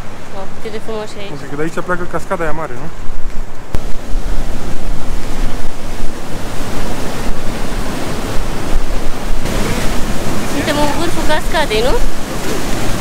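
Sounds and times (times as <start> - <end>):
rushing waterfall: 0.0 - 13.0
wind buffeting microphone: 0.0 - 13.0.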